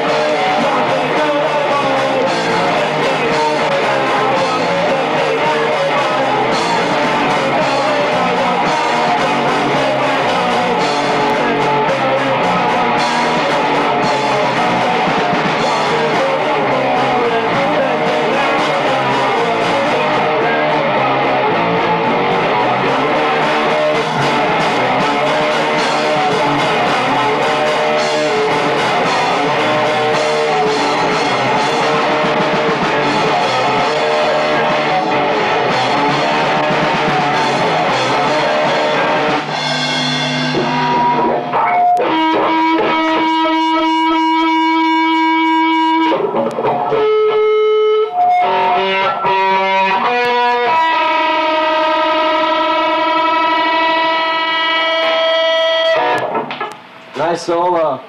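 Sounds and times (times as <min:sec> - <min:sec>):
distorted electric guitars: 0:00.0 - 0:58.0
drum kit: 0:00.0 - 0:58.0.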